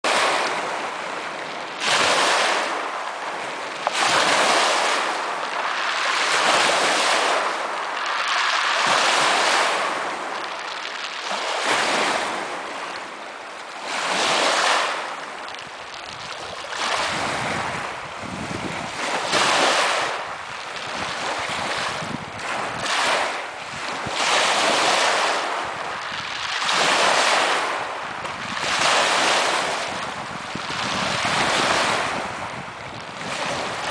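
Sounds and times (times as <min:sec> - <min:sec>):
waves washing onto pebble beach: 0:00.0 - 0:33.9.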